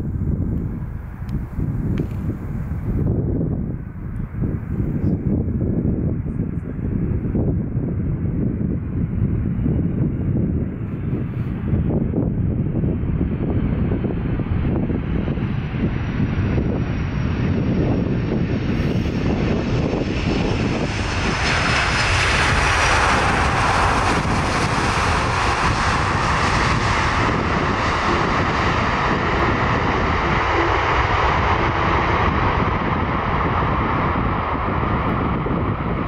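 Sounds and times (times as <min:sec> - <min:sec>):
jet engines roaring: 0:06.8 - 0:36.0.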